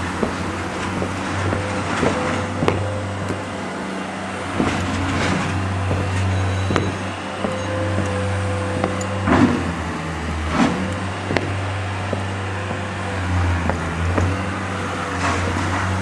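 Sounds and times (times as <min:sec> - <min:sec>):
low machine hum: 0:00.0 - 0:16.0
dull knocks: 0:00.1 - 0:03.5, 0:04.5 - 0:14.4.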